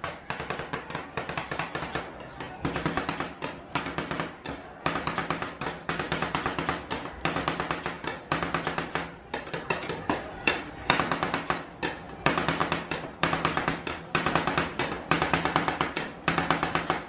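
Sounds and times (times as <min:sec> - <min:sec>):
metal spatulas chopping on steel: 0:00.0 - 0:17.0.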